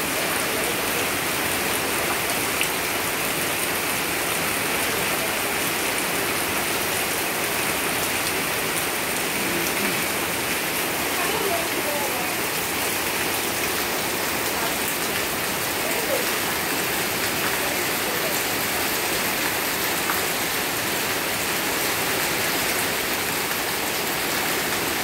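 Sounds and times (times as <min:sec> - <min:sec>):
heavy rain on concrete: 0:00.0 - 0:25.0.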